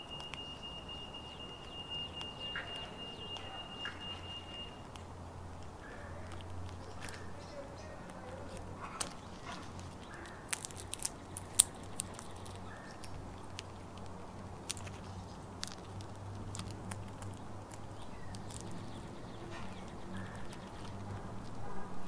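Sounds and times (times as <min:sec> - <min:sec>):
squirrel cracking nuts: 0:00.0 - 0:22.0.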